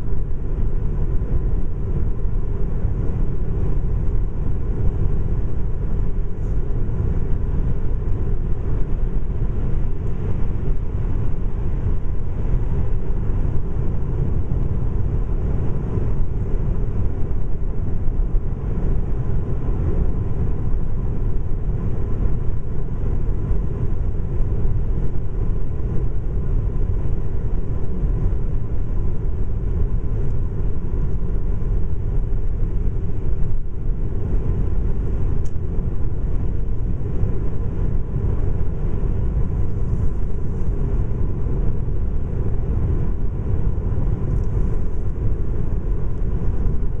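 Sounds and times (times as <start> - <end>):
car road noise from cabin: 0.0 - 47.0.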